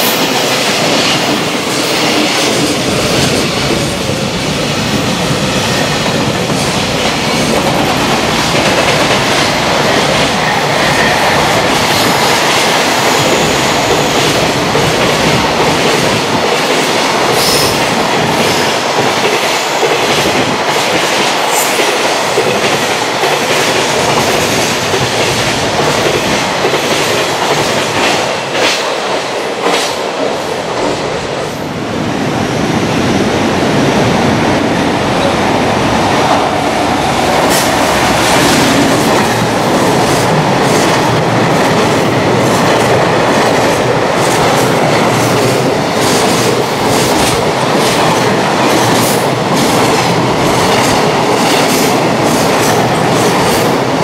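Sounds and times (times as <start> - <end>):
trains passing at speed: 0.0 - 54.0.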